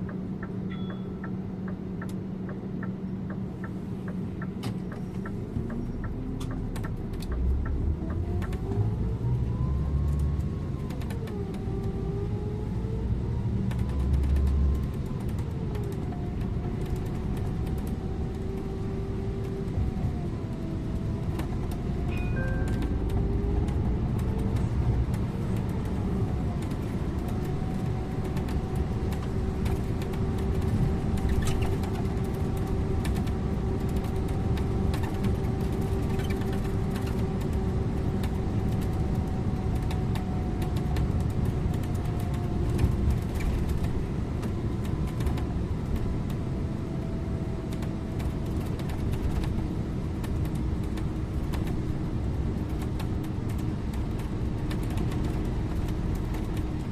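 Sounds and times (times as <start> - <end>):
bus engine and road noise: 0.0 - 56.9
engine whine: 0.0 - 56.9.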